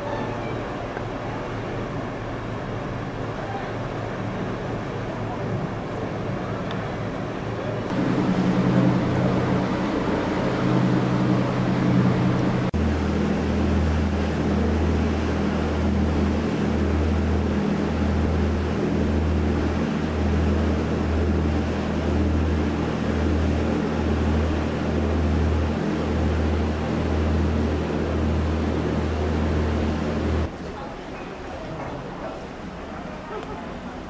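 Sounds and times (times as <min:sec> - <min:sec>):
ship engines rumbling: 0:00.0 - 0:34.0
wind and water hiss: 0:00.0 - 0:34.0.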